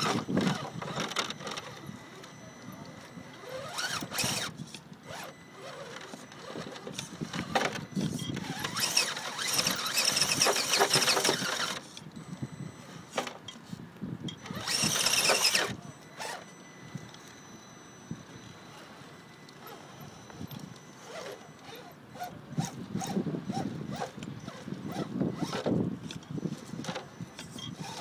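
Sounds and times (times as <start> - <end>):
electric motor and gears whirring: 0.0 - 28.0.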